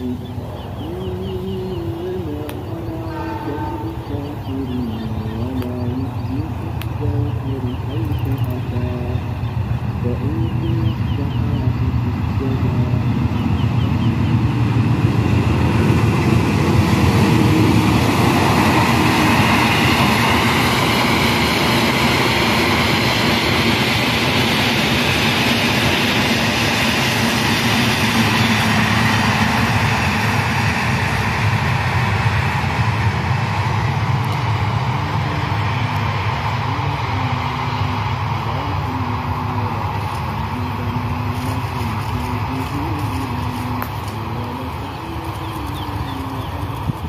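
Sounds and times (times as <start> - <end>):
distant train passing: 0.0 - 47.0.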